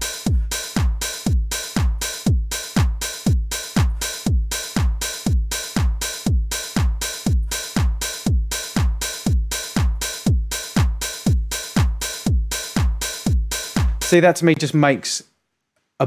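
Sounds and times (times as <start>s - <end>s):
kick drum: 0.0s - 14.1s
hi-hats: 0.0s - 14.4s
house drum machine beat: 0.0s - 14.6s.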